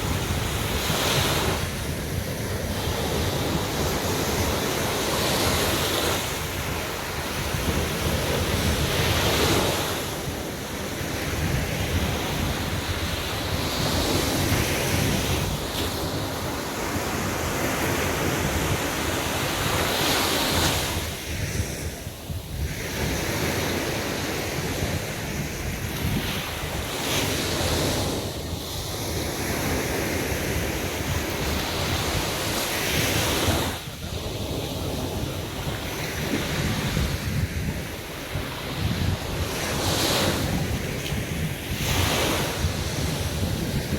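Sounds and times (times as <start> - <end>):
waves breaking on a beach: 0.0 - 43.9
wind buffeting microphone: 0.0 - 43.9.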